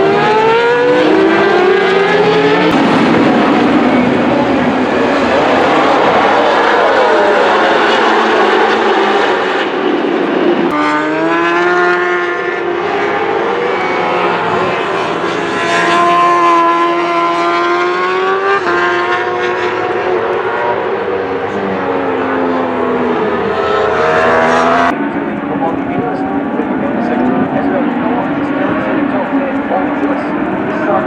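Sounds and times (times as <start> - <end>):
racing engines at high revs: 0.0 - 31.0.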